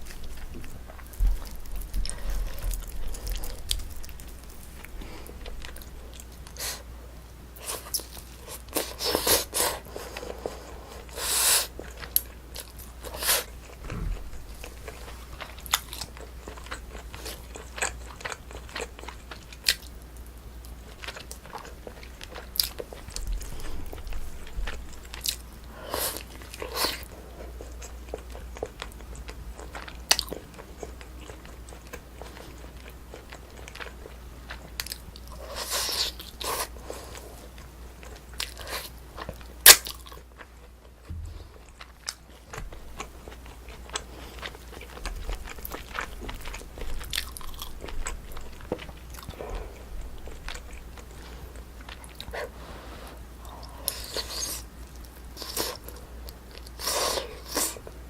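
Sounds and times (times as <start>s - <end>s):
chewing and wet mouth sounds: 0.0s - 6.9s, 7.6s - 58.0s.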